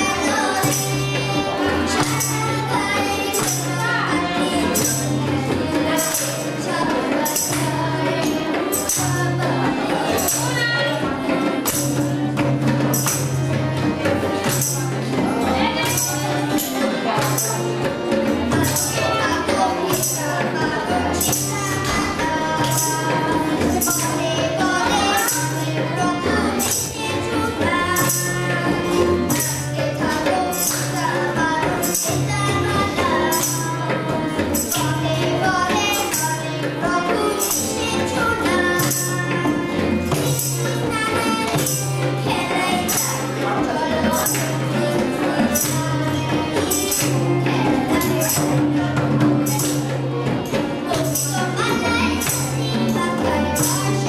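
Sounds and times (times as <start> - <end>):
harmonium: 0.0 - 54.0
tambourine jingling: 0.0 - 54.0.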